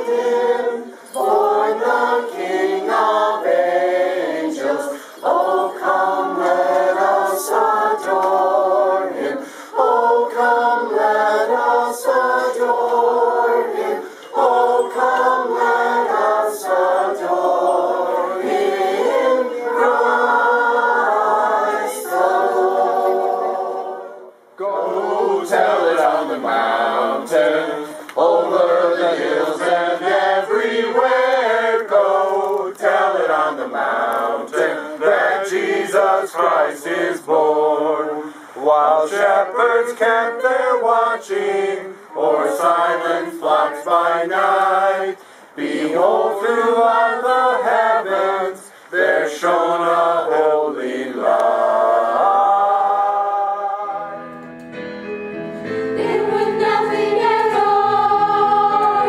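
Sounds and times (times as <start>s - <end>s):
choir singing: 0.0s - 54.3s, 55.6s - 59.0s.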